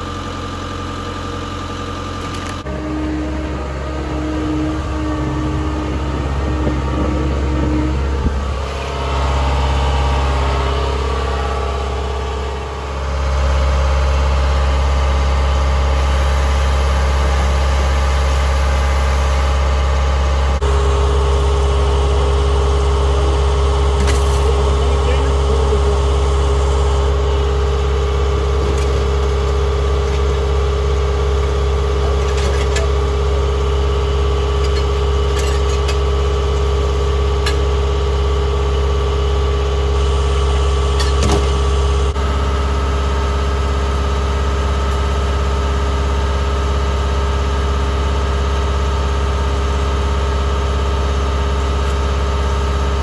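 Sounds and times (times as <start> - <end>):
skid steer engine running: 0.0 - 53.0.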